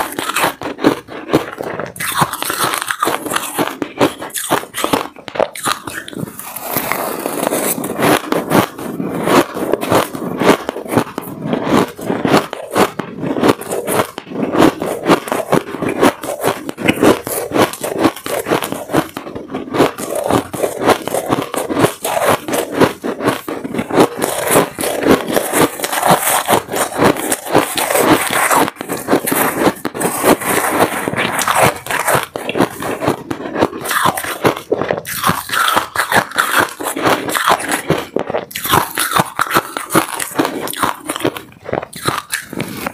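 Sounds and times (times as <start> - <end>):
chewing crunchy shaved ice: 0.0 - 42.9
metal spoon scraping ice: 0.0 - 42.9.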